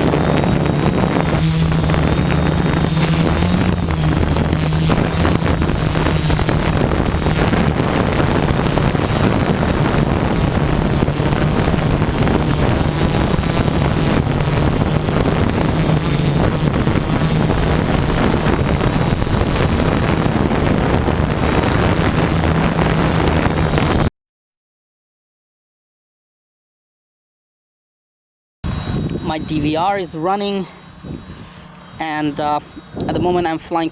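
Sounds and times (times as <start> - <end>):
quadcopter motors humming: 0.0 - 24.1, 28.6 - 33.9
wind buffeting microphone: 0.0 - 24.1, 28.6 - 33.9.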